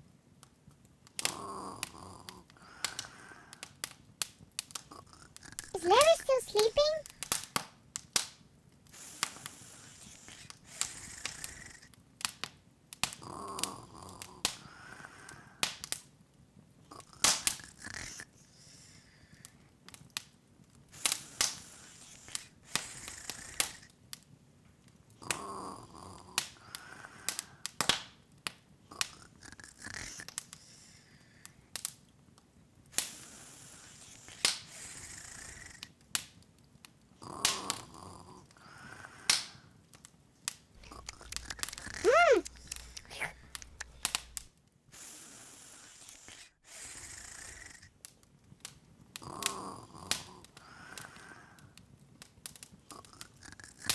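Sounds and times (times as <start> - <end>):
open fire crackling: 0.2 - 6.4, 7.0 - 46.2, 48.0 - 53.9.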